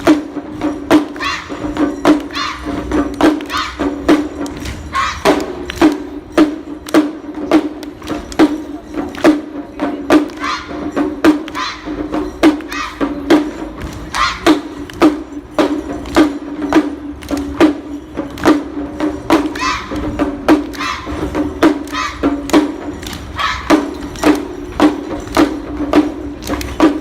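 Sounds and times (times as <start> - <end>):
drum beating in rhythm: 0.0 - 27.0.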